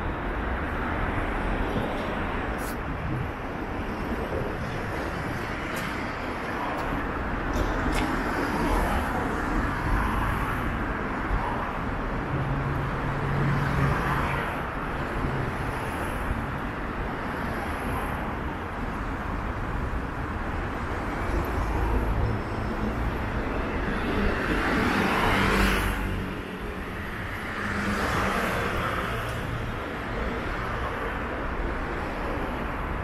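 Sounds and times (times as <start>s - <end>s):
cars passing: 0.0s - 33.0s.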